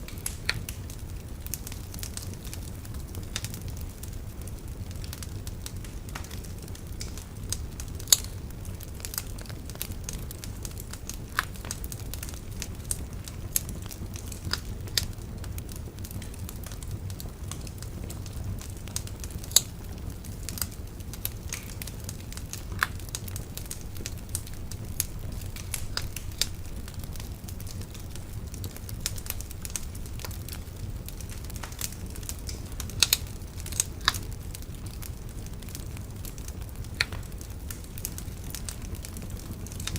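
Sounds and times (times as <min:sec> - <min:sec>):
bonfire crackling and popping: 0:00.0 - 0:39.9
low rumble of flames: 0:00.0 - 0:39.9.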